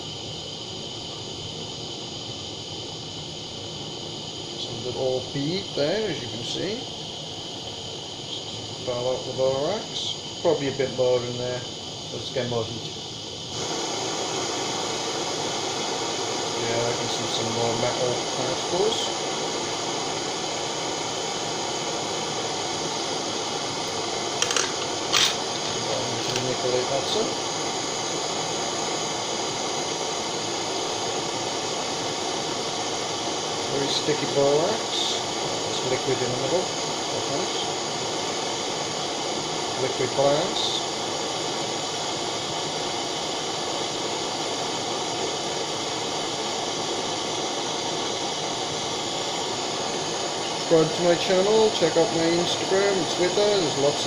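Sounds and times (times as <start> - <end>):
butane torch flame hissing: 0.0 - 54.0.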